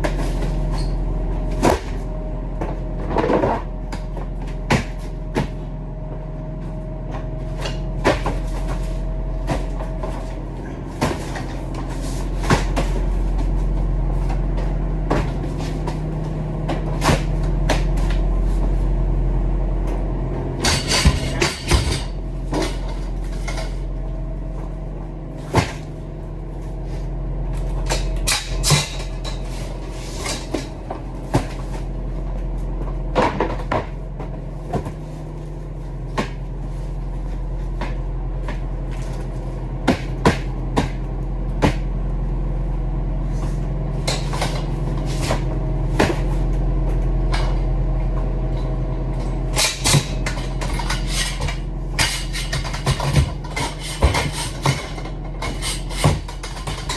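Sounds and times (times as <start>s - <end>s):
truck engine droning: 0.0s - 56.9s.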